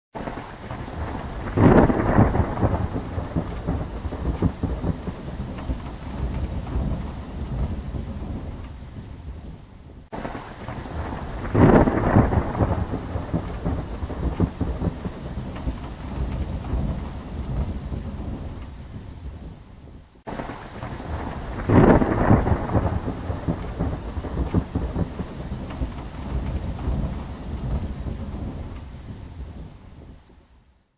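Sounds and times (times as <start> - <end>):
thunder rolling: 0.2 - 30.3
light rain: 0.2 - 30.9.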